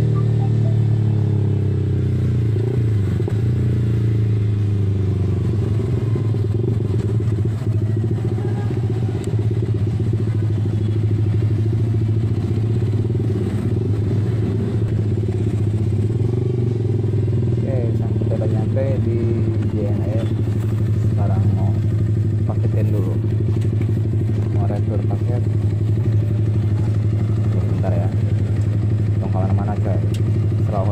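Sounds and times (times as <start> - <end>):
motorcycle engine at low revs: 0.0 - 30.9.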